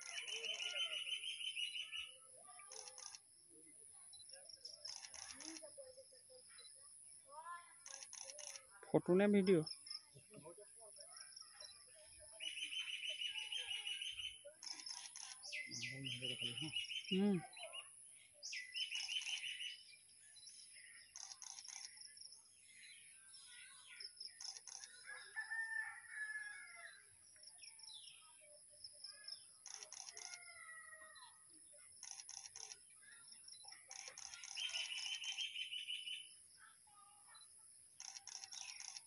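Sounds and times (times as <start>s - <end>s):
birds calling and chirping: 0.0s - 5.7s, 7.8s - 36.8s, 37.8s - 39.0s.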